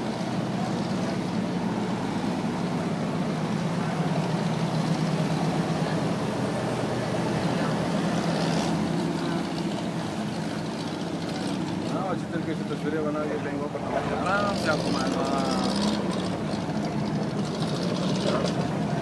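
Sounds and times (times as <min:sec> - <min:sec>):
boat engine droning: 0:00.0 - 0:19.0
water rushing along hull: 0:00.0 - 0:19.0.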